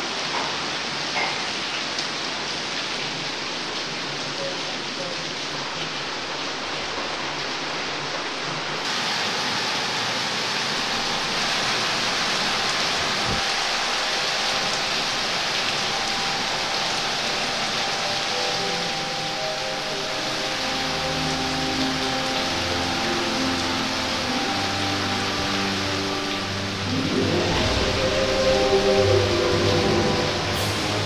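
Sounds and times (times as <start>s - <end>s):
torrential rain pouring: 0.0s - 31.0s.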